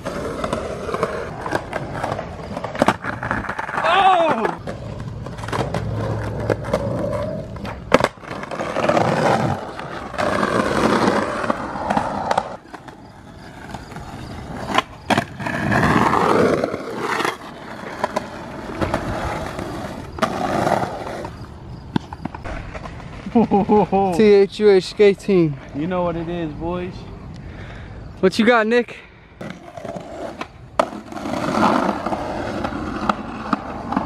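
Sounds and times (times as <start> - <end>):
skateboards clacking: 0.0 - 25.8, 29.4 - 34.0
skateboard wheels rolling on concrete: 0.0 - 34.0.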